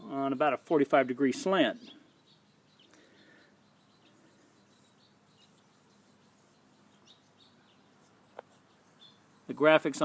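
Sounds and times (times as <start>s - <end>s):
faint background hiss: 0.0s - 10.0s
faint high chirps: 0.0s - 10.0s.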